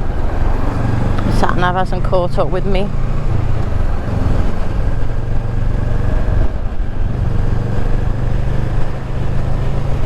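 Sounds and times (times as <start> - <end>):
motorcycle engine running: 0.0 - 10.0
road and rushing noise: 0.0 - 10.0.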